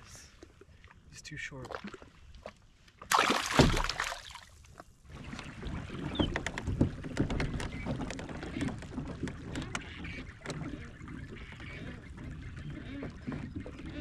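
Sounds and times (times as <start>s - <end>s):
low rumble of kayak hull: 0.0s - 14.0s.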